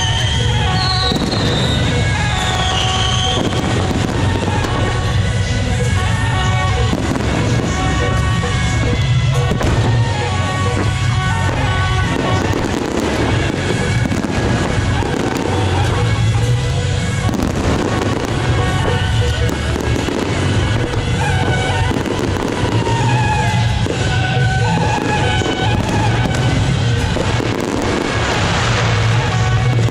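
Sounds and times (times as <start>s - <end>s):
fireworks popping and crackling: 0.0s - 29.9s
loud music: 0.0s - 29.9s.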